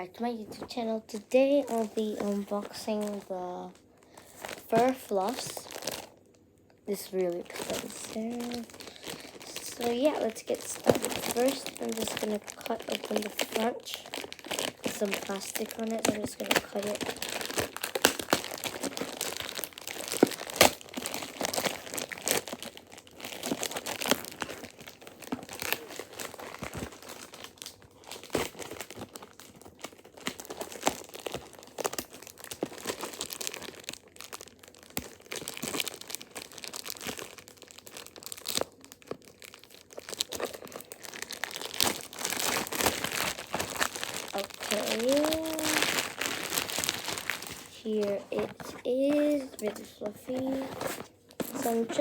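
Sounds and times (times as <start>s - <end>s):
plastic film crinkling and tearing: 0.2s - 6.3s, 6.9s - 52.0s.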